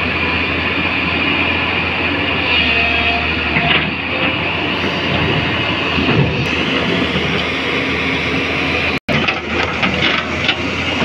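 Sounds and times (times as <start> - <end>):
diesel excavator engine: 0.0 - 11.0
truck engine: 0.0 - 11.0.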